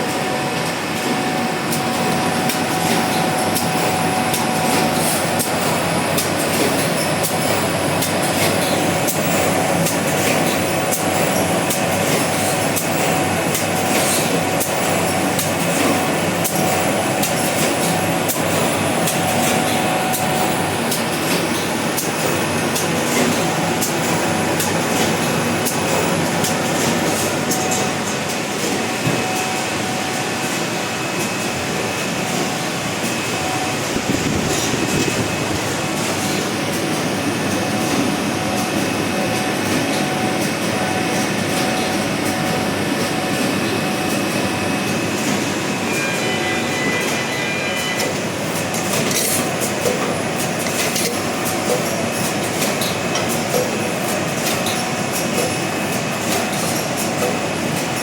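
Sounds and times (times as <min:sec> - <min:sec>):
printing machine clatter and hum: 0:00.0 - 0:58.0.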